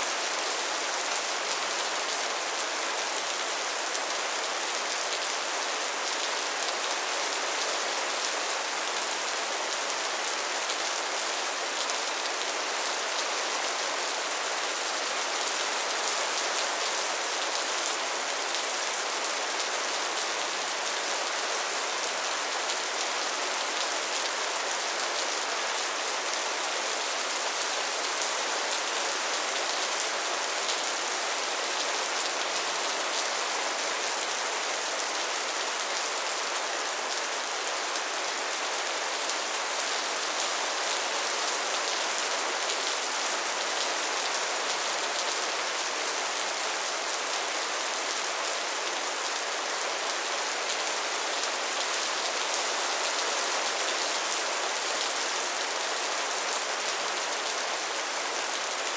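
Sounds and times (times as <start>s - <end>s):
soft rain falling: 0.0s - 58.9s.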